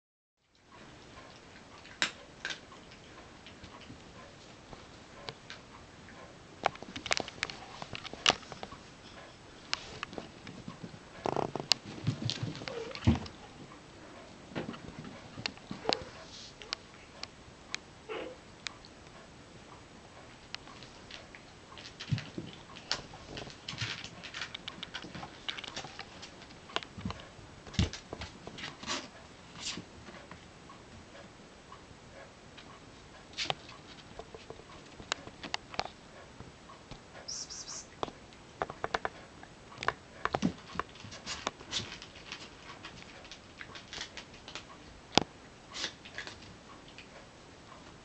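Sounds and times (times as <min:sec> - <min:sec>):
kittens clicking and scratching: 0:00.5 - 0:17.3, 0:20.5 - 0:30.4, 0:32.6 - 0:36.3, 0:38.0 - 0:47.2.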